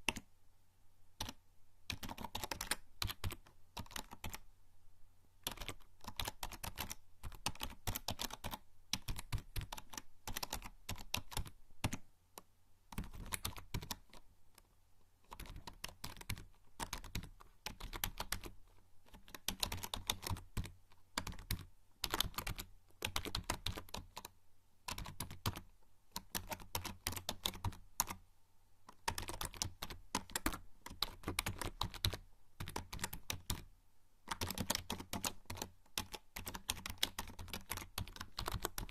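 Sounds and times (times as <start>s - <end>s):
typing on computer keyboard: 0.0s - 0.3s, 1.2s - 4.4s, 5.4s - 14.2s, 15.3s - 28.2s, 28.9s - 33.7s, 34.3s - 38.9s.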